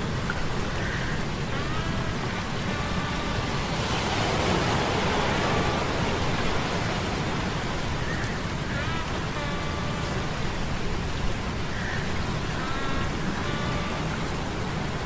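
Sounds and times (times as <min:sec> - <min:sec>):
faint humming tones: 0:00.0 - 0:15.0
rain and surf rushing: 0:00.0 - 0:15.0.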